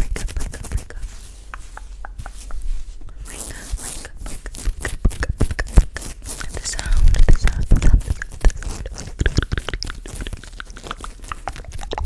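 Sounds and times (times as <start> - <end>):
mouth clicks and smacks: 0.0 - 12.0
soft rubbing on microphone: 0.0 - 12.0.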